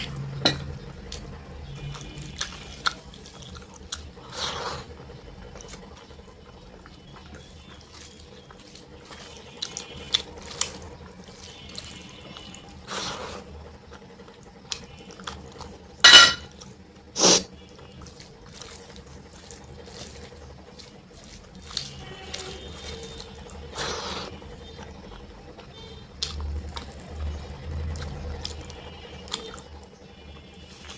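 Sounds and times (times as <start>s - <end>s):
wet eating smacks and squelches: 0.0s - 15.9s, 16.5s - 30.9s.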